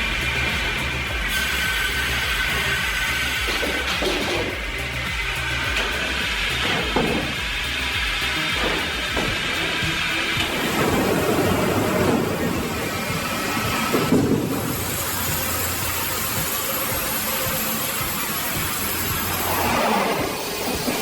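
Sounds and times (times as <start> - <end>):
heavy machinery running: 0.0 - 21.0.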